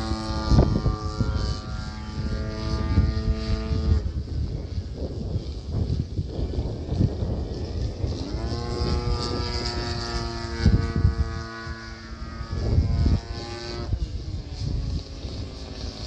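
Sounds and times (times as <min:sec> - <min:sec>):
model plane motor whining: 0:00.0 - 0:16.0
wind rumbling on microphone: 0:00.0 - 0:16.0.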